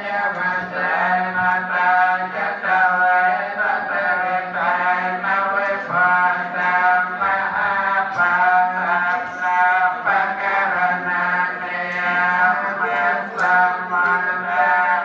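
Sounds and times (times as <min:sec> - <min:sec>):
voices chanting: 0:00.0 - 0:15.0.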